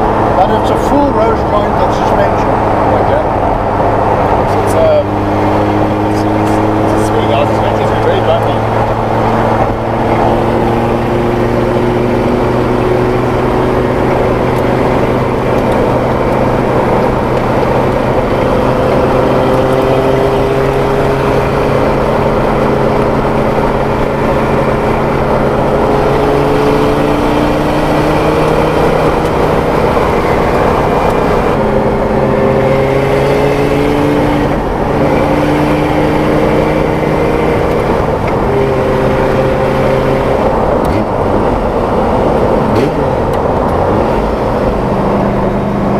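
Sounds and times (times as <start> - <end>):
race car engine accelerating: 0.0 - 45.9.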